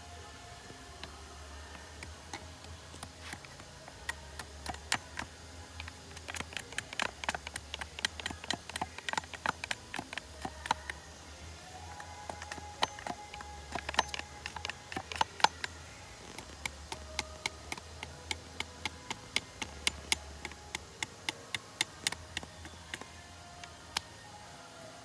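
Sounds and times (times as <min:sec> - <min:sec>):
low steady hum: 0:00.0 - 0:25.0
small clicks and ticks: 0:00.6 - 0:24.4.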